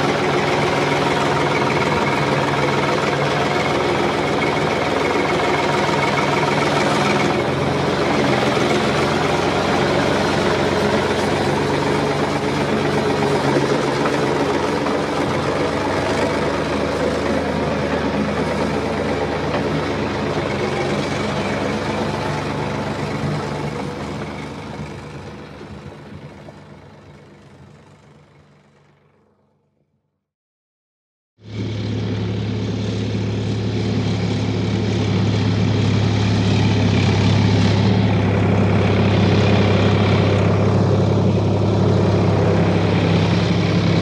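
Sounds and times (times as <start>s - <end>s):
heavy machinery engine droning: 0.0s - 29.8s, 31.4s - 44.0s.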